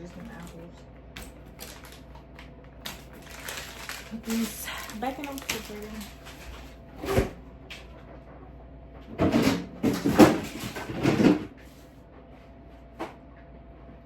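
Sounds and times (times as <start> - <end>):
rustling and clattering of items: 0.0 - 8.4, 9.0 - 12.4.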